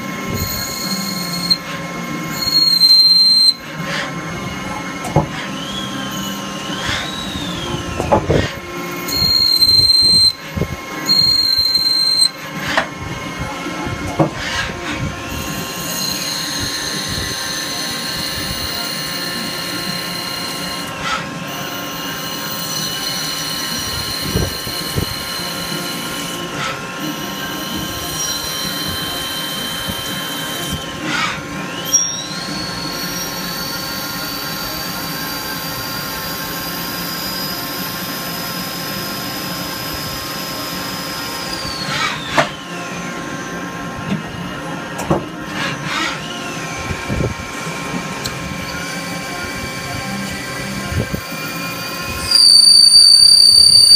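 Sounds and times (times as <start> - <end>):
lathe whine: 0.0 - 53.9
machine hum: 0.0 - 53.9.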